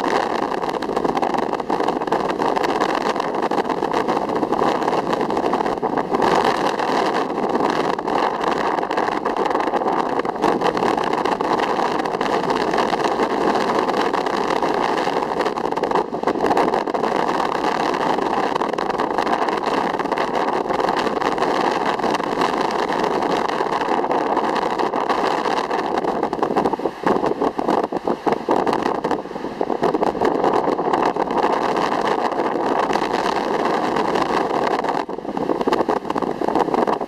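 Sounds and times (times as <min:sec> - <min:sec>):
ocean surf rushing: 0:00.0 - 0:37.0
wind gusts on microphone: 0:00.0 - 0:37.0.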